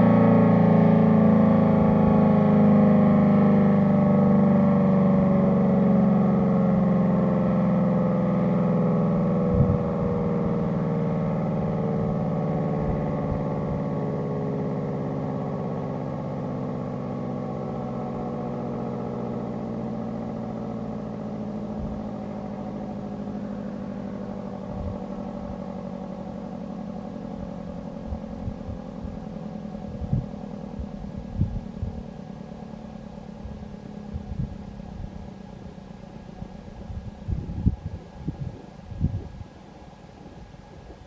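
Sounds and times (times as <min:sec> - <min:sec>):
warning siren winding down: 0:00.0 - 0:41.0.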